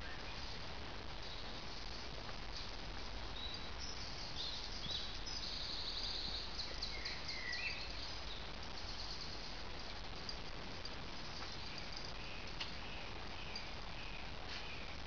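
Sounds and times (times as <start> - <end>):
songbirds chirping: 0.0 - 15.0
steady background hiss: 0.0 - 15.0.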